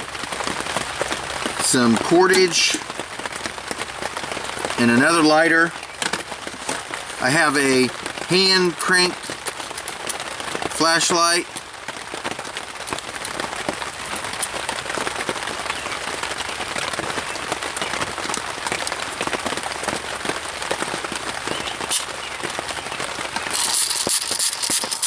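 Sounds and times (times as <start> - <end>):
rain pattering on a tarp: 0.0 - 25.0.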